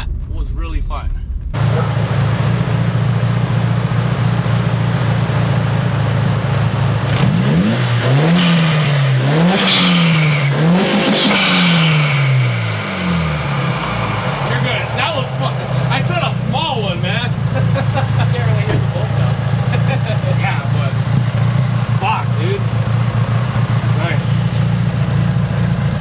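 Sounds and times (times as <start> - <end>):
car engine idling and revving: 1.4 - 26.0.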